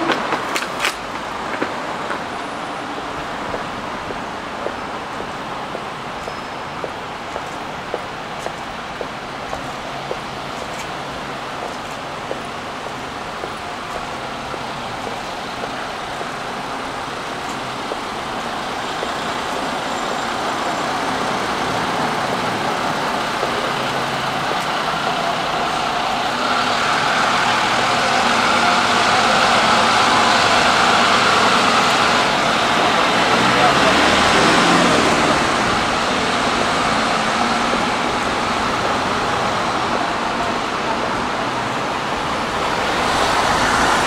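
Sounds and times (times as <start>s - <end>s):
road traffic passing: 0.0s - 44.0s.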